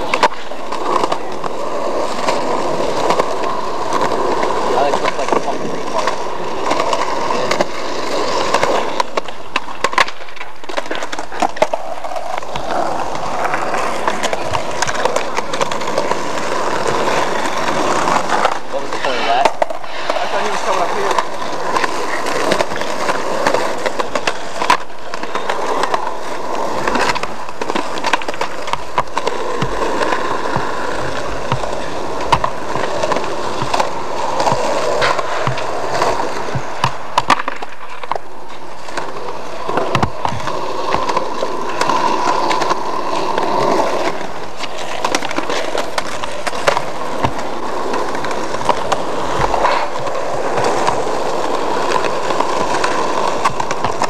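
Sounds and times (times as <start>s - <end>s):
skateboard clacking on ground: 0.0s - 54.0s
skateboard wheels rolling on concrete: 0.0s - 54.0s.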